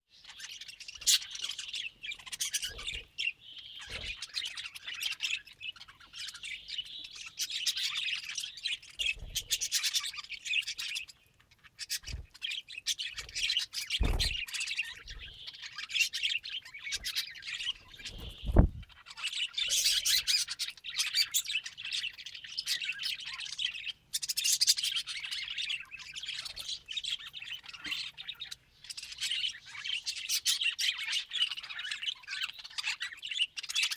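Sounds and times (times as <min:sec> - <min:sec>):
budgerigars chirping and warbling: 0:00.1 - 0:33.9.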